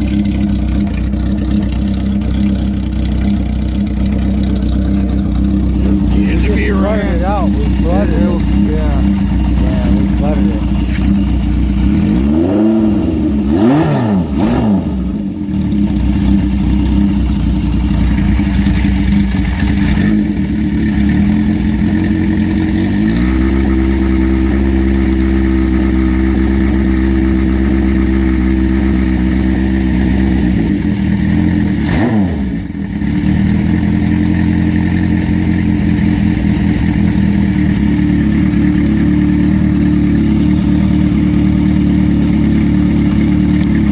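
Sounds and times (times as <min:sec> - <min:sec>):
motorcycle engine idling and revving: 0:00.0 - 0:43.9.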